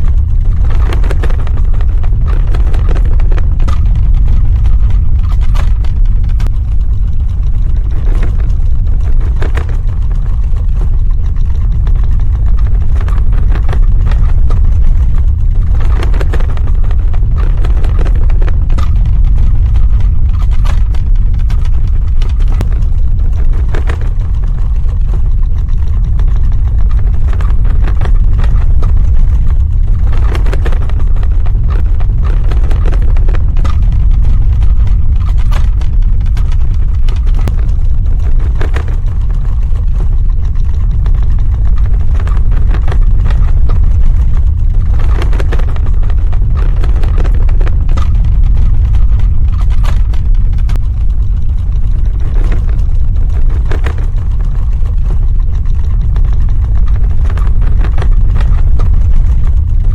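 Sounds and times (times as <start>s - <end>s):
cracks and rattles: 0.0s - 59.9s
deep earthquake rumble: 0.0s - 59.9s.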